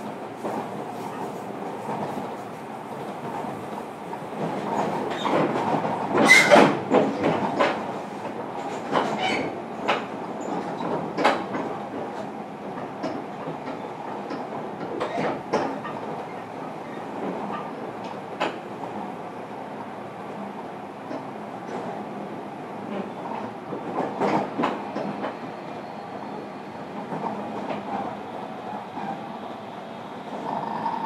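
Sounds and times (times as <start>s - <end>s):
rumble of wheels on rail: 0.0s - 31.0s.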